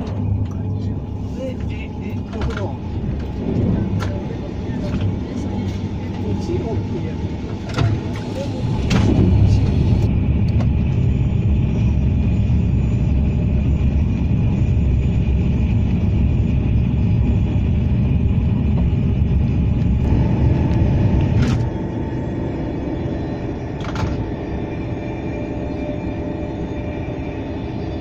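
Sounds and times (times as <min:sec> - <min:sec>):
faint steady whine: 0:00.0 - 0:28.0
train wheels rumbling on track: 0:00.0 - 0:28.0.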